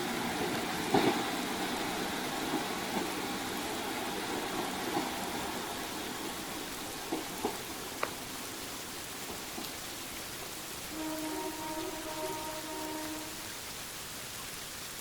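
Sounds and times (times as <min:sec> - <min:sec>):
diesel train engine: 0:00.0 - 0:13.6
rain hiss: 0:00.0 - 0:15.0.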